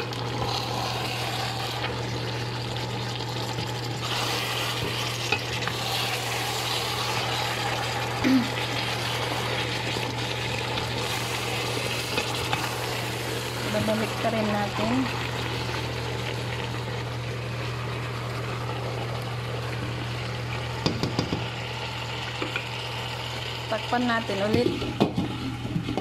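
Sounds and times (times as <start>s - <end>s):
chicken sizzling and bubbling: 0.0s - 26.0s.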